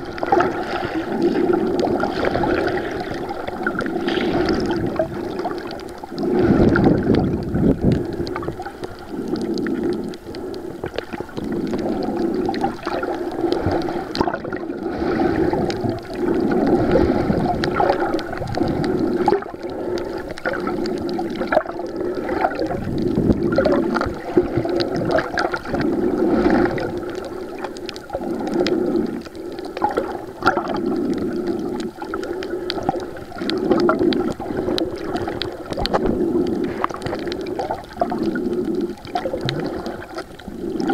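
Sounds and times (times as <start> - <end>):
muffled underwater sloshing: 0.0 - 40.9.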